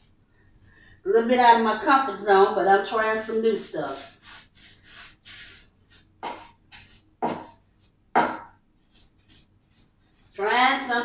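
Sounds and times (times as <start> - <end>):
paintbrush swishing on wood: 2.0 - 11.0.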